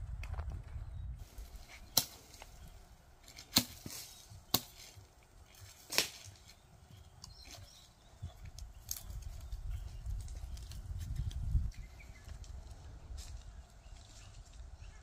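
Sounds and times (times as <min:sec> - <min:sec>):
dry branches cracking: 0:01.2 - 0:14.8.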